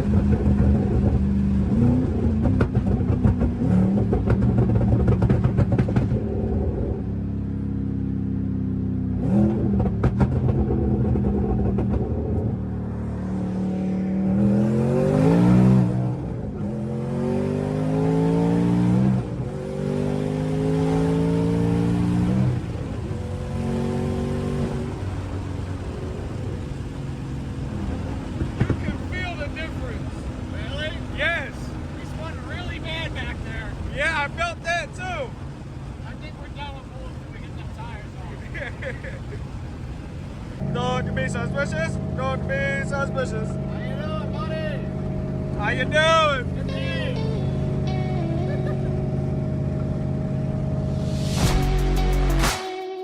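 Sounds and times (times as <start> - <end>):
car engine accelerating through gears: 0.0 - 52.5.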